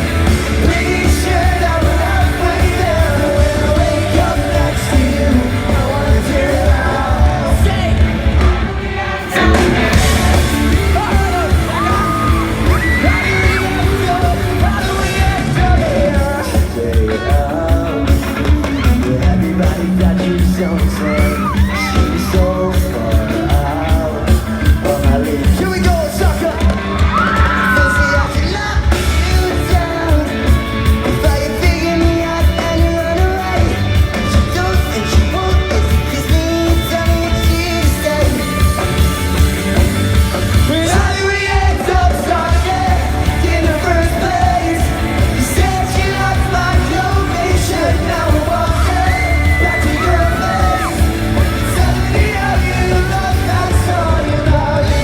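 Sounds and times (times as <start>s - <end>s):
lead singing: 0.0s - 55.0s
pop-punk band playing live: 0.0s - 55.0s
steady drum beat: 0.0s - 55.0s.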